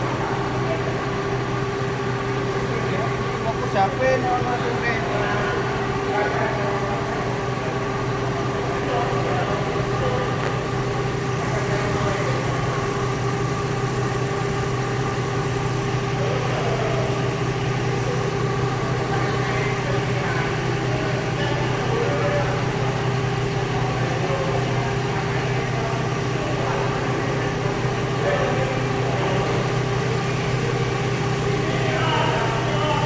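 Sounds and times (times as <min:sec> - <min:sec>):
faint voices: 0:00.0 - 0:33.0
machinery humming drone: 0:00.0 - 0:33.0.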